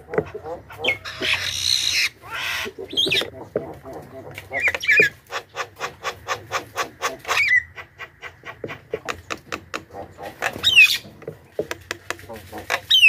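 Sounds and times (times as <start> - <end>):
bird chattering: 0.0 - 13.0.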